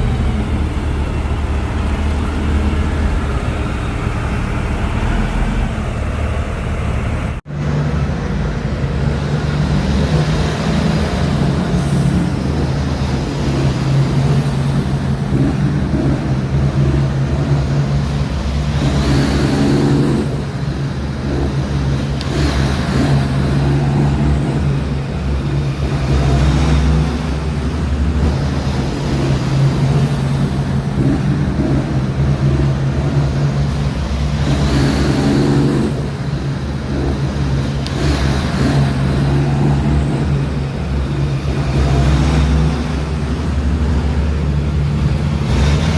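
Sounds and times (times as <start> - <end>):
diesel truck engine droning: 0.0 - 45.9.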